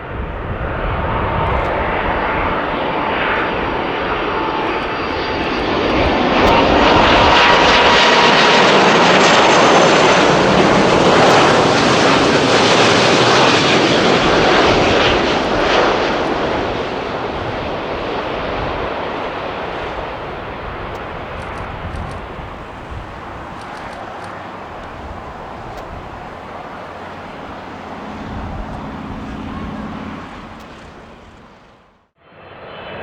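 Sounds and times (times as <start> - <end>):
jet engines passing close: 0.0 - 33.0.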